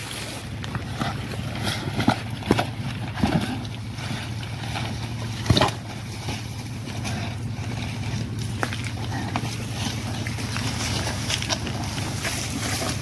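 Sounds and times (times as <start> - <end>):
steady low hum: 0.0 - 13.0
wet tearing and crunching: 0.6 - 13.0.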